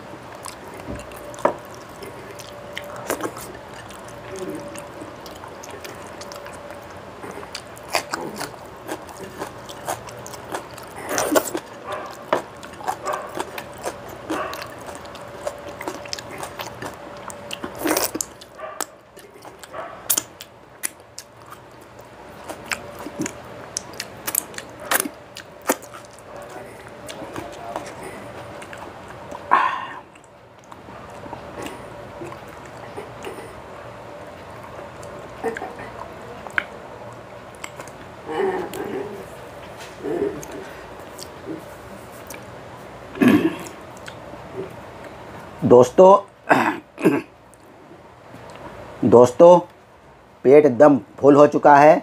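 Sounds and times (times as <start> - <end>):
chewing with mouth smacks: 0.0 - 45.6, 47.5 - 48.9
faint steady hum: 0.0 - 52.0.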